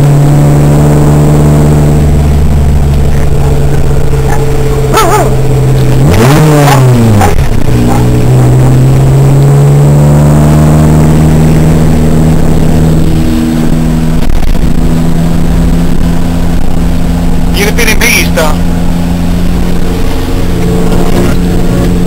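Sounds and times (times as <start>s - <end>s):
off-road vehicle engine from inside cab: 0.0s - 22.0s.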